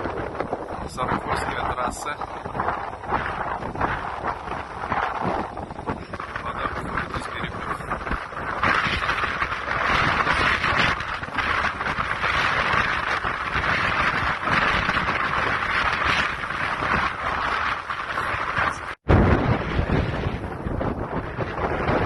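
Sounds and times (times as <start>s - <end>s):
low rumble: 0.0s - 22.0s
strong wind buffeting microphone: 0.0s - 22.0s.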